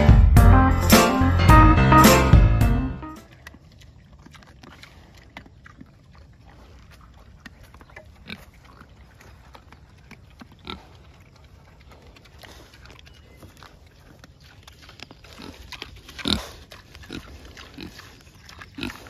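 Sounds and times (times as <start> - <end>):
pigs chewing: 3.2 - 19.0
pigs grunting: 3.3 - 19.0.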